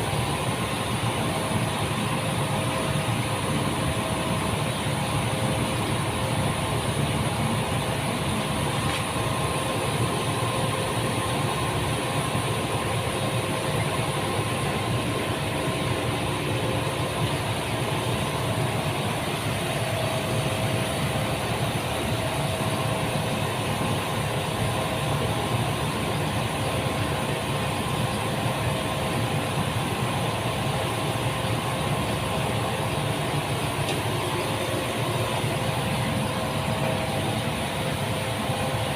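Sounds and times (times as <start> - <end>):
machine hum with low rumble: 0.0 - 38.9.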